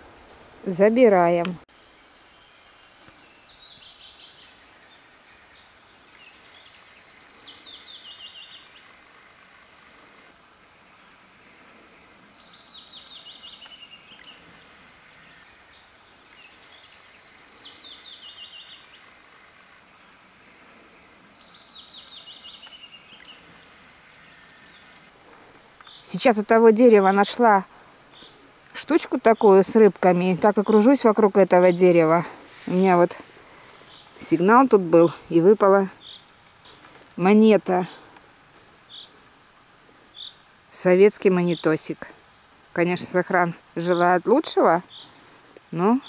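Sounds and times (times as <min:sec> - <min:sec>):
faint outdoor hiss: 0:00.0 - 0:46.0
songbird singing: 0:00.0 - 0:46.0.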